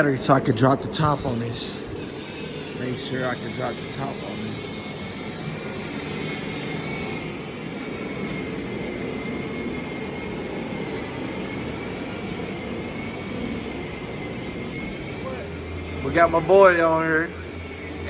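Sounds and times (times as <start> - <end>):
mechanical running noise: 0.0 - 18.0
thin high whine: 0.0 - 18.0.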